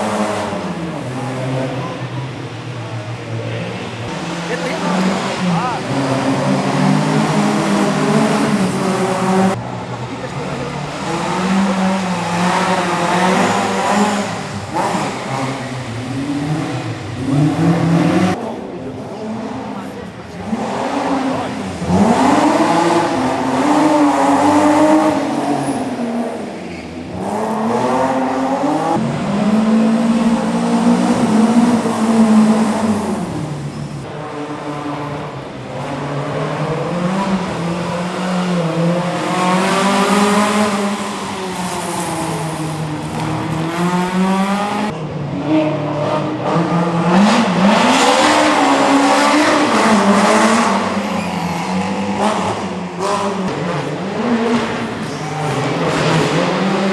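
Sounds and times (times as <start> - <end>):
rally car engine accelerating: 0.0 - 56.9.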